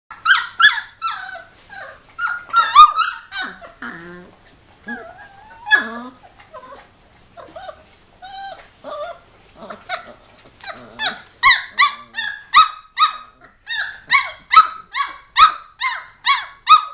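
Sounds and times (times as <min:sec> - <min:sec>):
puppies drawn-out calls: 0:00.1 - 0:04.2, 0:04.8 - 0:16.9
puppies barking and yelping: 0:00.1 - 0:16.9.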